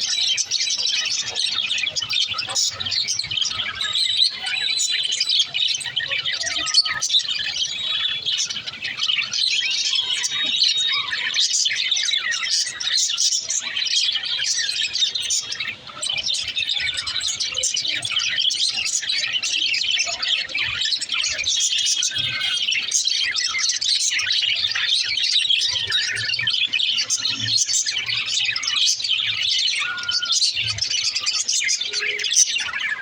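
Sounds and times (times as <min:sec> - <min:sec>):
parrots chattering and chirping: 0:00.0 - 0:33.0.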